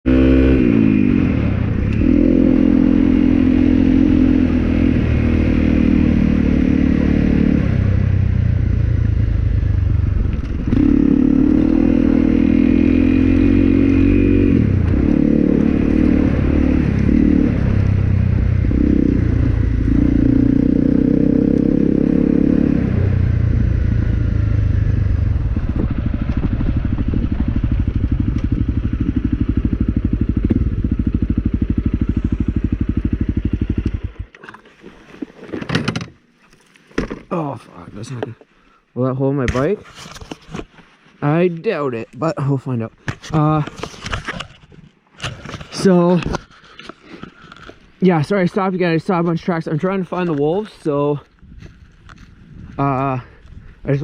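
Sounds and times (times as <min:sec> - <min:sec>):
motorcycle engine riding: 0:00.0 - 0:36.2, 0:41.2 - 0:54.0.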